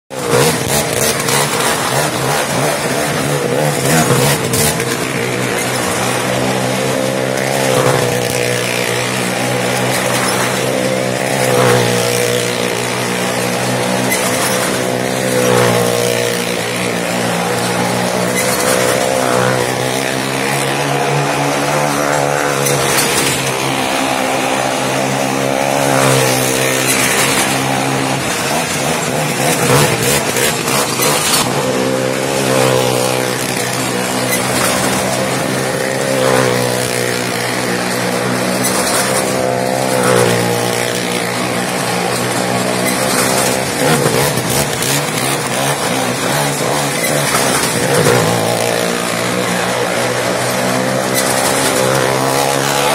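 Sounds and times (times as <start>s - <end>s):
car engine running hard: 0.0s - 52.9s.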